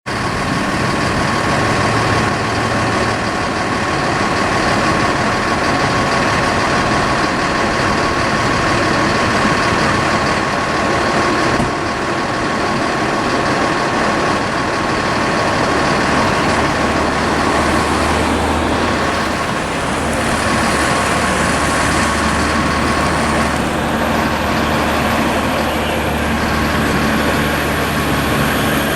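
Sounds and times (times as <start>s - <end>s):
heavy truck engines running: 0.0s - 28.9s
deep engine hum: 0.1s - 28.9s.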